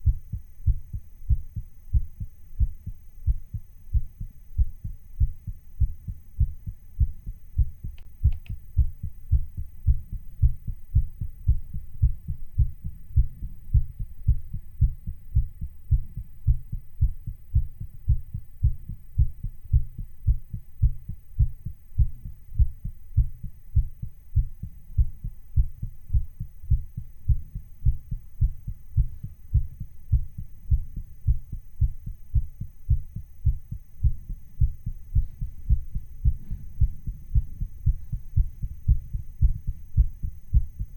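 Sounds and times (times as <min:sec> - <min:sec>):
fast heartbeat thumps: 0:00.0 - 0:40.9.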